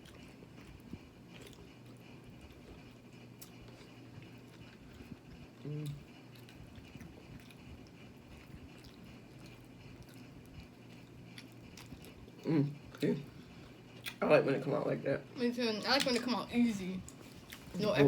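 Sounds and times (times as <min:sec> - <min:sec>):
quiet chewing: 0:00.0 - 0:14.2, 0:17.0 - 0:17.8.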